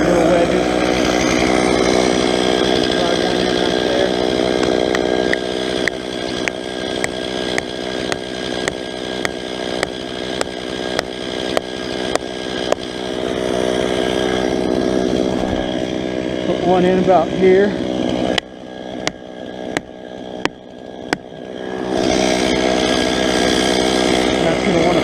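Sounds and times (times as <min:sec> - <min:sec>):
chainsaw idling: 0:00.0 - 0:25.0.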